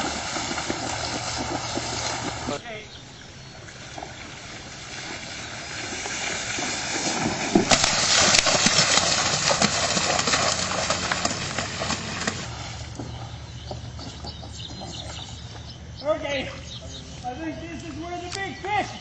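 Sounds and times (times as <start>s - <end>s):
bare feet splashing through water: 0.0s - 2.6s, 3.2s - 15.9s, 16.5s - 19.0s.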